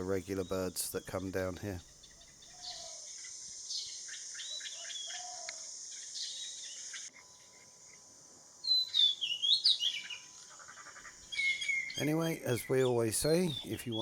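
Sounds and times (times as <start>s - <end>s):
high insect hiss: 0.0s - 14.0s
small birds chirping: 0.0s - 14.0s.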